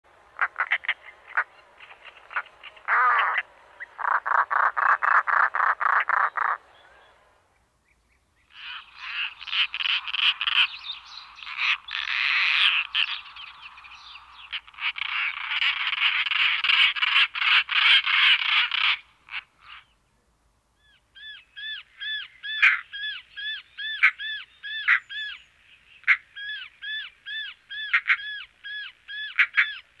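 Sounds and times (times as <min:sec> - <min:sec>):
bird harsh rattling calls: 0:00.4 - 0:06.8, 0:08.5 - 0:19.9, 0:21.2 - 0:30.0.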